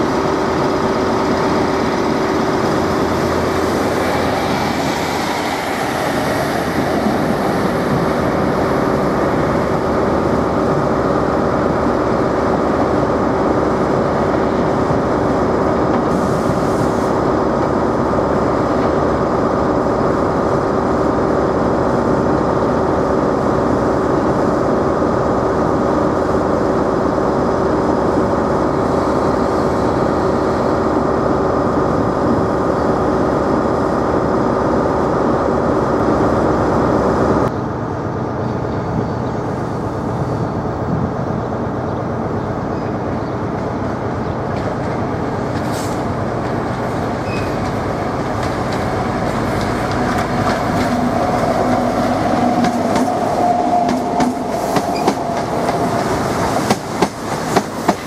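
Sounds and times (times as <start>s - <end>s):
diesel train engine drone: 0.0s - 58.0s
rail noise: 0.0s - 58.0s.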